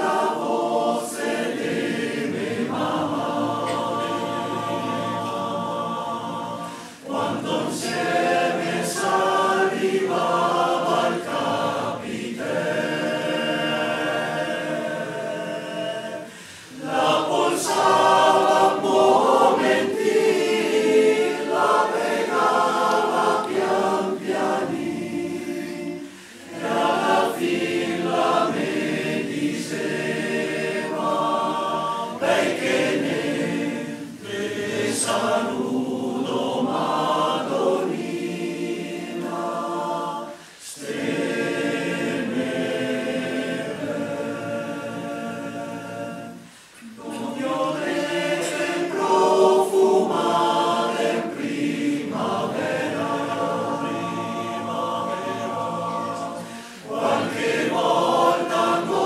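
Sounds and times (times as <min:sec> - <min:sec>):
male choir singing: 0:00.0 - 0:59.0.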